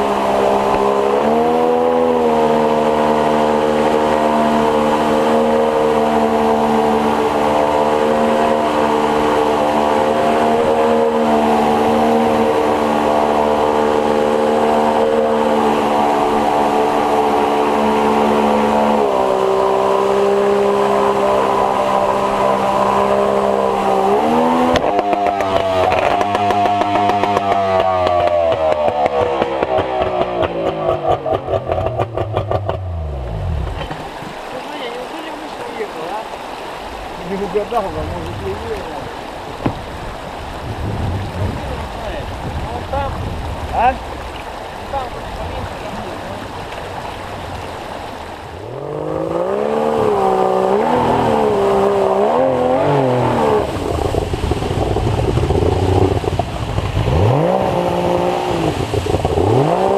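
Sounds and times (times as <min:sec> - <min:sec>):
outboard boat engine revving: 0:00.0 - 0:59.9.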